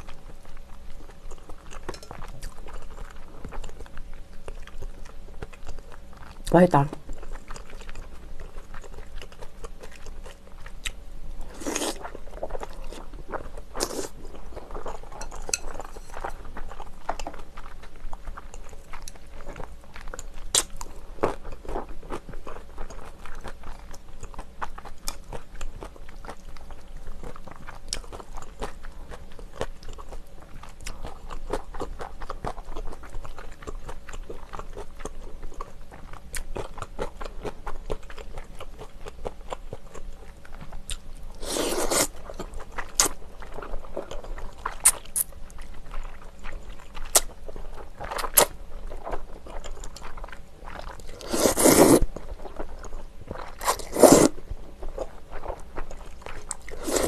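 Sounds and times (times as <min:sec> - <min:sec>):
person chewing: 0:07.1 - 0:57.0.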